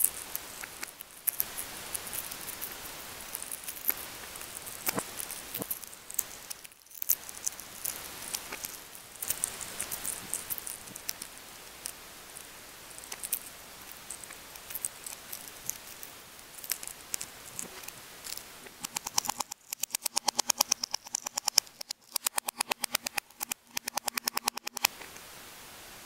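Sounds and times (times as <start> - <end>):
egg rolled crackling on table: 0.0 - 24.9
eggshell cracking: 0.0 - 24.9.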